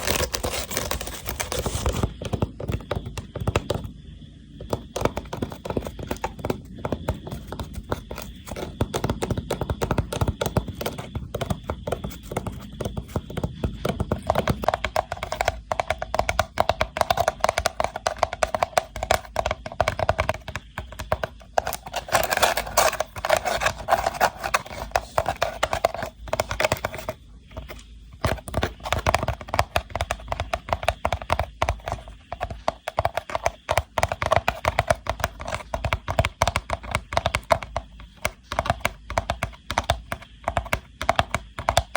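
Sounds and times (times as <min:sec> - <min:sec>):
hand tapping rattan box: 0:00.0 - 0:03.9, 0:04.6 - 0:41.9.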